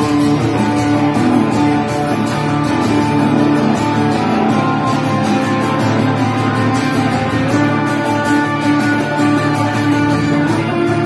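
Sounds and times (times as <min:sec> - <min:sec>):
acoustic guitar strumming: 0:00.0 - 0:11.0
electric guitar playing lead: 0:00.0 - 0:11.0.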